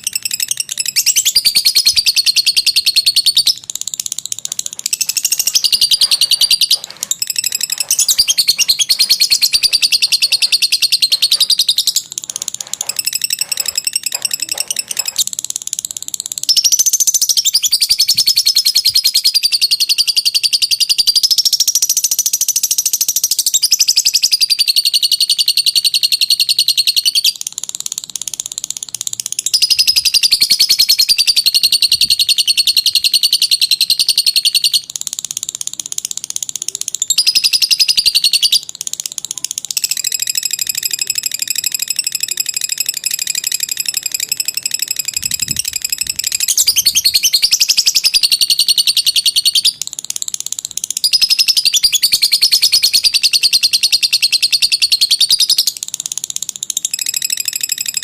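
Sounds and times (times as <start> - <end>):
lovebird high-pitched chatter: 0.0 - 58.0.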